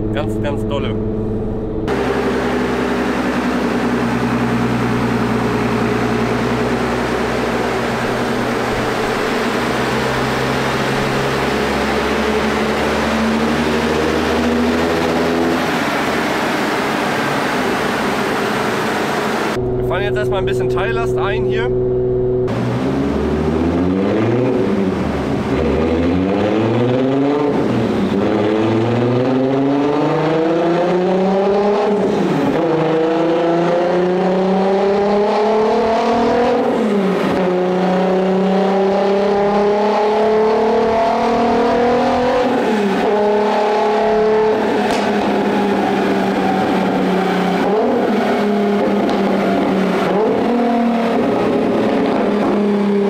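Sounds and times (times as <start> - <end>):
car engine accelerating on dyno: 0.0 - 53.0.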